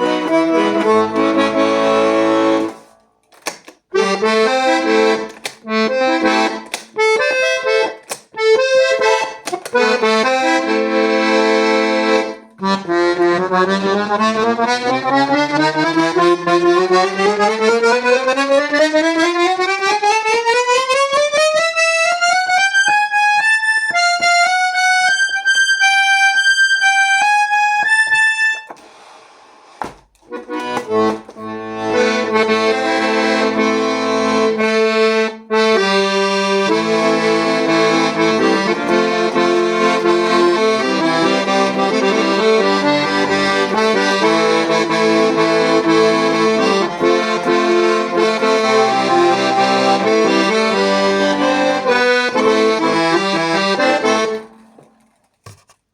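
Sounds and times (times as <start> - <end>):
piano accordion playing: 0.0 - 55.6.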